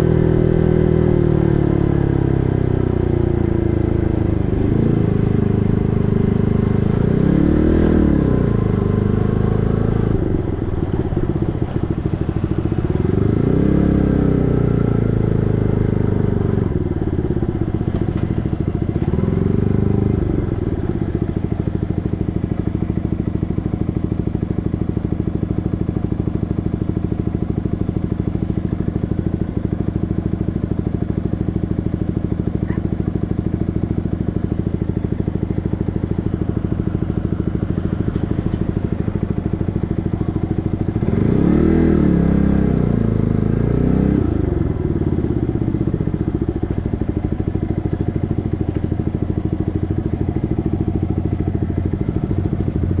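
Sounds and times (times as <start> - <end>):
motorcycle engine revving and idling: 0.0 - 53.0.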